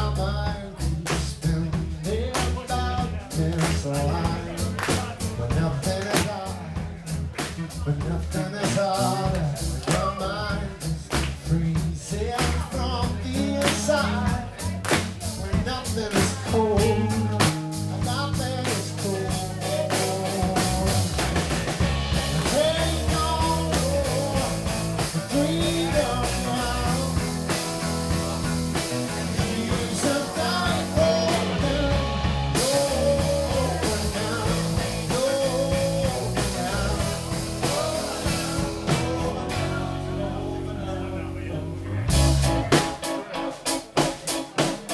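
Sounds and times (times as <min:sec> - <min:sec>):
low bass line: 0:00.0 - 0:42.9
person singing: 0:00.0 - 0:44.9
rock band playing: 0:00.0 - 0:44.9.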